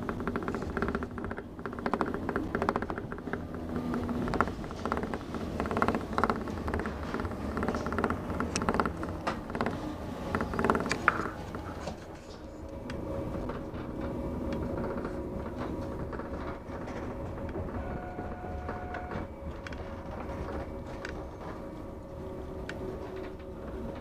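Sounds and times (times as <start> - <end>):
faint steady whine: 0.0 - 24.0
train rumble: 0.0 - 24.0
train wheels clattering: 0.0 - 24.0.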